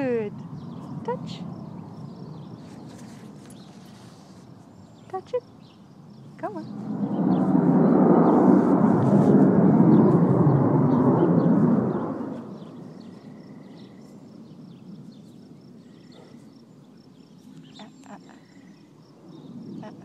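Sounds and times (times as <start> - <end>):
small birds chirping: 0.0 - 8.4, 9.9 - 20.0
wind buffeting microphone: 0.0 - 20.0.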